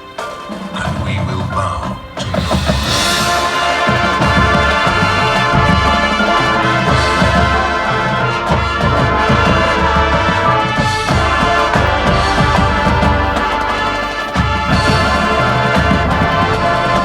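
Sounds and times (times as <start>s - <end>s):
brass holding loud chords: 0.0s - 17.0s
low drum hits: 2.0s - 17.0s.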